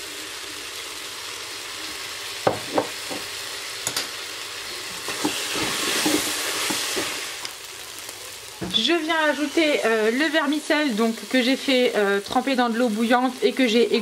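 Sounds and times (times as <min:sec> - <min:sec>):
vegetables sizzling: 0:00.0 - 0:14.0.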